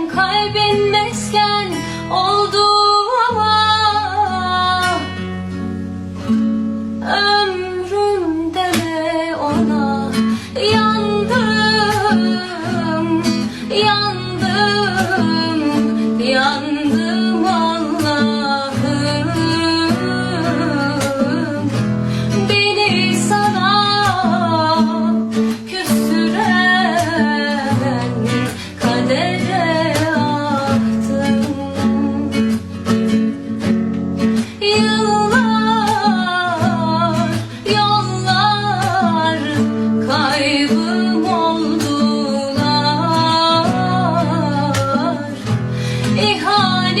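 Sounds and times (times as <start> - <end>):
guitar accompaniment: 0.0 - 47.0
woman singing slow song: 0.0 - 47.0.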